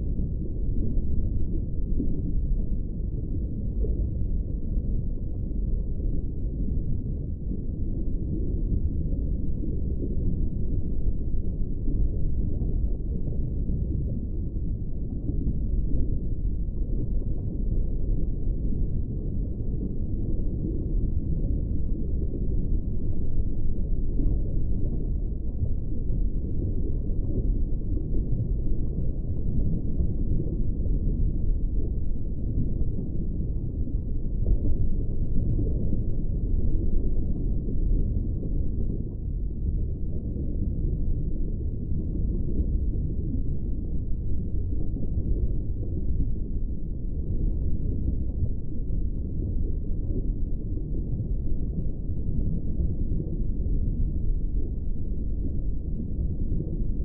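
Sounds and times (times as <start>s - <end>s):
underwater low rumble: 0.0s - 57.0s.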